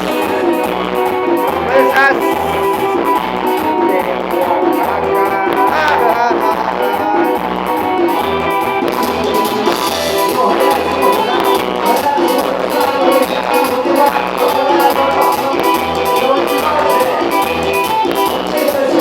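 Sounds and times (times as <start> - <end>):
band music with guitars and drums: 0.0 - 19.0.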